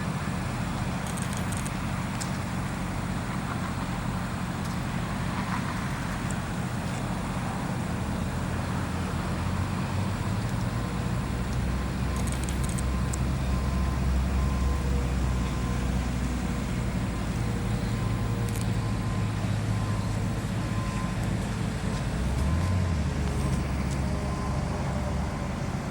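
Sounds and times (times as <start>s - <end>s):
large engine rumbling: 0.0s - 25.9s.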